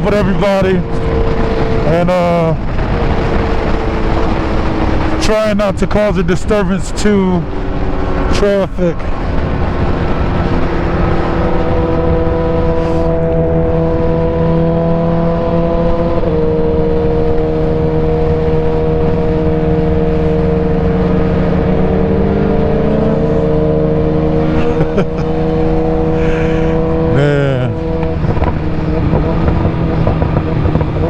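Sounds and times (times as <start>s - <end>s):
sport bike engine cruising: 0.0s - 31.0s
wind rumble: 0.0s - 31.0s.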